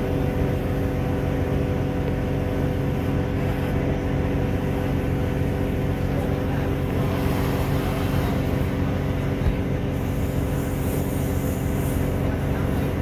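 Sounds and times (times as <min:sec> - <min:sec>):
train diesel engine running: 0:00.0 - 0:13.0.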